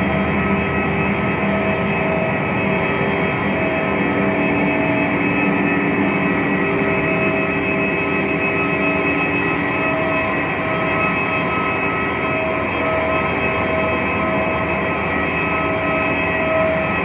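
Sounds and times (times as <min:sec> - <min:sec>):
aircraft engines humming: 0:00.0 - 0:17.0.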